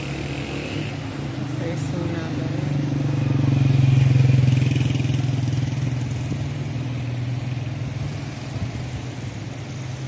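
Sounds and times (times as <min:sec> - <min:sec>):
motor vehicle engine running: 0:01.1 - 0:10.0.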